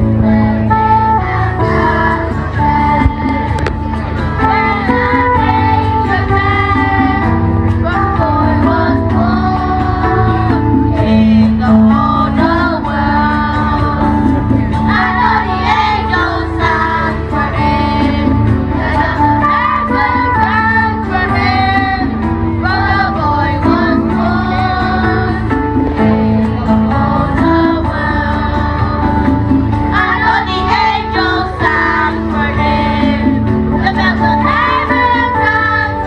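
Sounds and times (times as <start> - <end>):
high singing voices: 0.0 - 36.0
musical accompaniment: 0.0 - 36.0.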